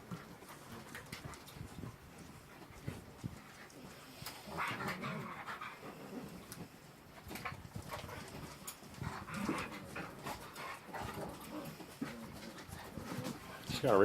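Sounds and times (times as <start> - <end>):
dogs panting: 0.0 - 14.0
dogs scuffling: 0.0 - 14.0.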